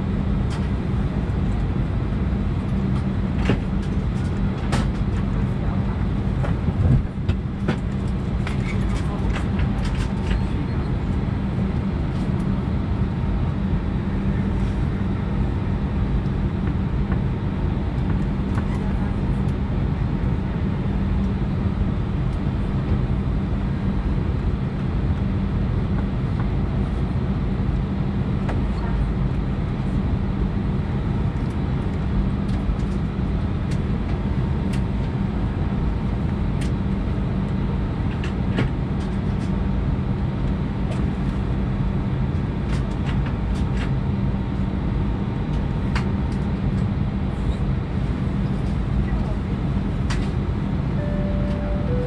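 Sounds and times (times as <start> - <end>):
aircraft cabin rumble and hum: 0.0 - 52.0.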